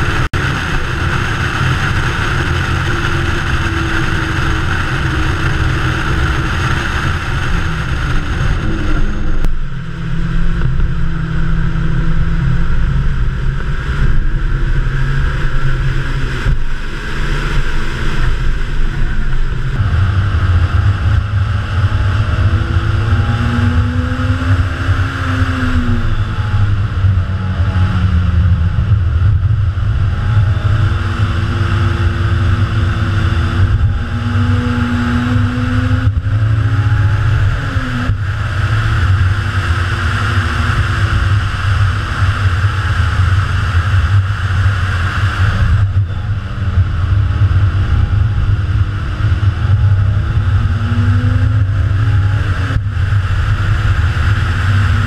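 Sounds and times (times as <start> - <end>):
car engine revving through gears: 0.0 - 55.0
wind and road noise: 0.0 - 55.0.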